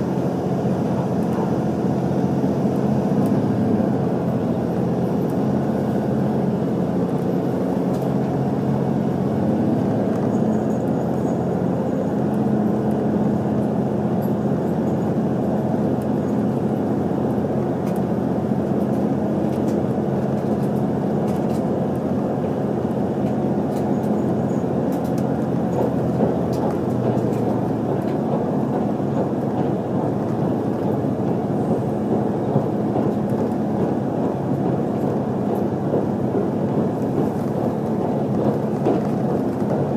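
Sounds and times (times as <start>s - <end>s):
train cabin rumble and hum: 0.0s - 39.9s.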